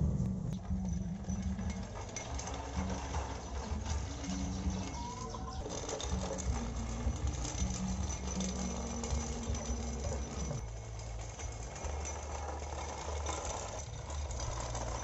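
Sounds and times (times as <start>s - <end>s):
toy electric motors whirring: 0.0s - 15.0s.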